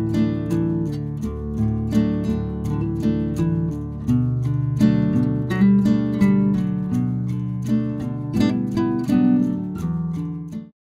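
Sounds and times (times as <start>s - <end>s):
acoustic guitar music: 0.0s - 10.8s.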